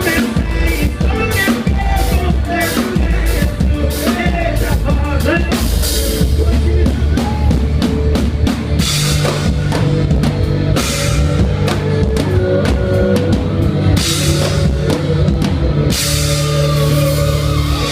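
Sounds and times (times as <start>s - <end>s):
band playing: 0.0s - 17.9s
bass line: 0.0s - 17.9s.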